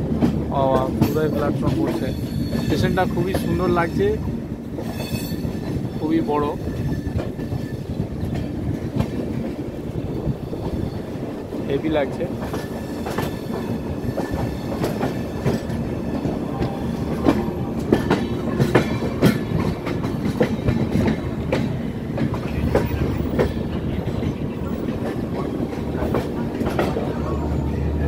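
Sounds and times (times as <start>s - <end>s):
train wheels rumbling: 0.0s - 28.0s
wheels clacking over rail joints: 0.0s - 28.0s.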